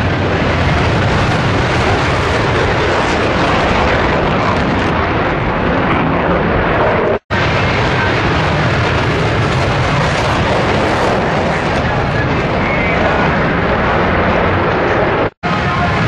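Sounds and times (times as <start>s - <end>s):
jet fighters flying past: 0.0s - 16.0s.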